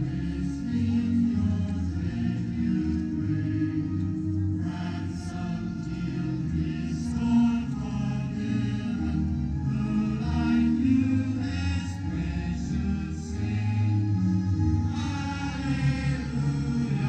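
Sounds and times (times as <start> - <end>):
crowd singing a hymn: 0.0 - 17.0.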